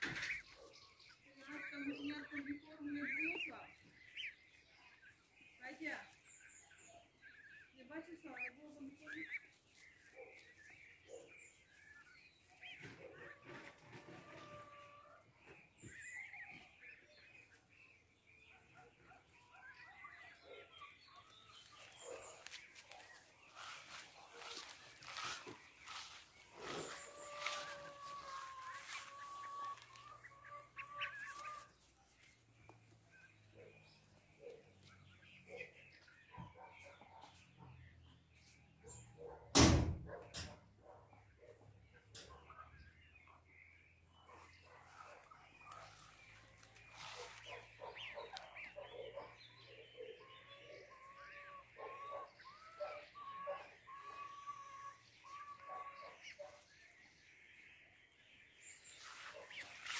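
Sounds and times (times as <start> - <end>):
goslings peeping: 0.0 - 37.5, 41.0 - 57.2, 58.7 - 59.9.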